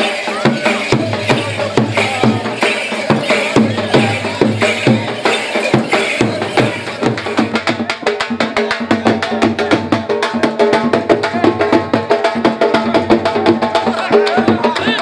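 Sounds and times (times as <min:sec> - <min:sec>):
dhol drumming fast beat: 0:00.0 - 0:15.0.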